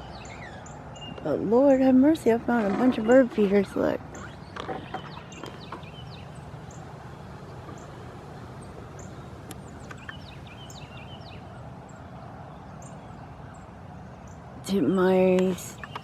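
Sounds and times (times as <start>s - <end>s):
low background hum: 0.0s - 16.0s
small songbirds chirping: 0.0s - 16.0s.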